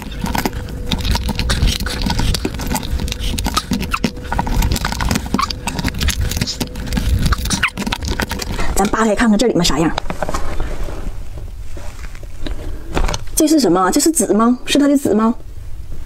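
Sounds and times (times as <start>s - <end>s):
crab shell crackling and scraping: 0.0s - 13.4s.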